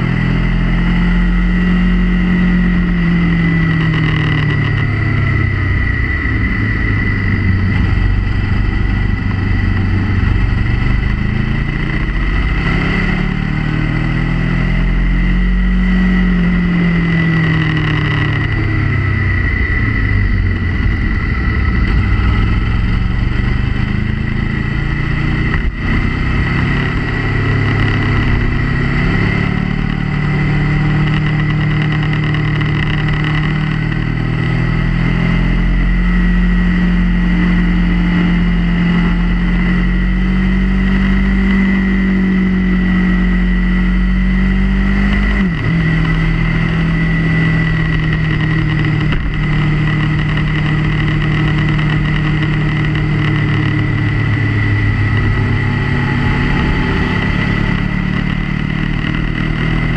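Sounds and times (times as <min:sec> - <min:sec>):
motorcycle engine running: 0:00.0 - 0:59.9
steady high whine: 0:00.0 - 0:59.9.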